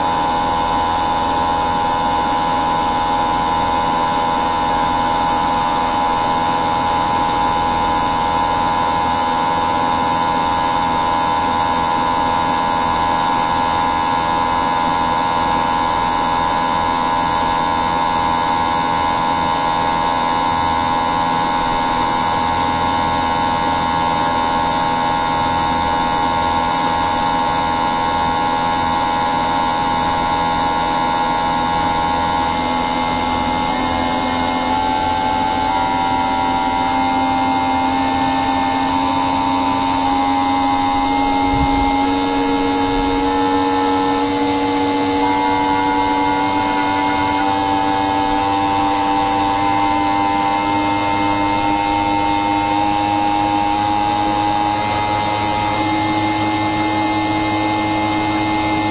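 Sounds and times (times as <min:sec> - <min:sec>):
machine humming with high whine: 0:00.0 - 0:58.9.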